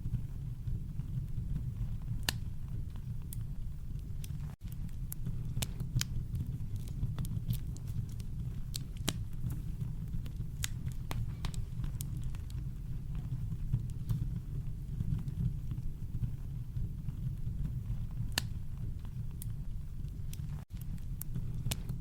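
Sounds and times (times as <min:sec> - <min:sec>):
campfire crackling: 0:00.0 - 0:22.0
deep rumble: 0:00.0 - 0:22.0.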